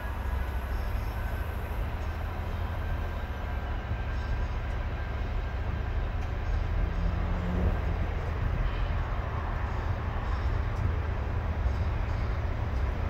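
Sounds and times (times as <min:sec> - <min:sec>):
train wheels and diesel engine rumbling: 0:00.0 - 0:13.0.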